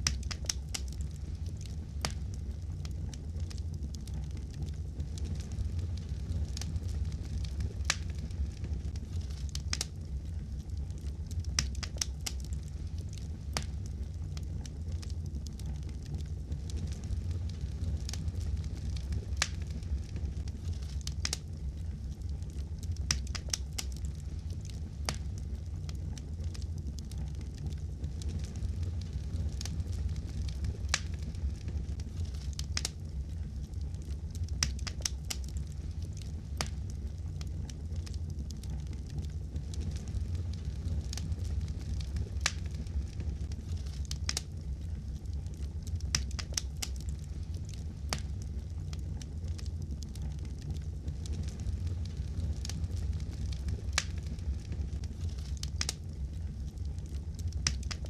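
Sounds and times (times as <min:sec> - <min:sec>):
fire rumbling: 0:00.0 - 0:58.0.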